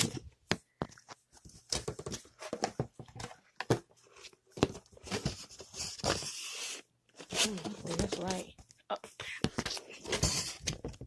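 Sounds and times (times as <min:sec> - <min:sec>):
cardboard rustling and scraping: 0:01.0 - 0:08.5, 0:09.6 - 0:11.0.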